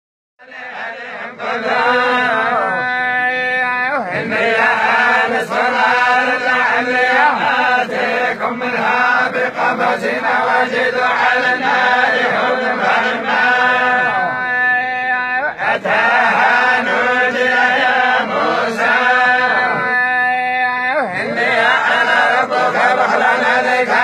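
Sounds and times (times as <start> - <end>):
group of men chanting: 0.4 - 24.0.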